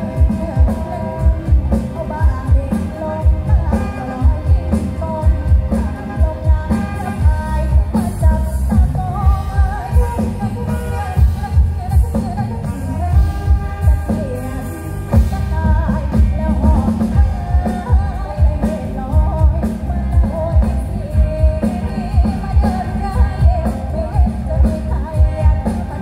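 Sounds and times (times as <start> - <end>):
loud music with singing: 0.0 - 26.0.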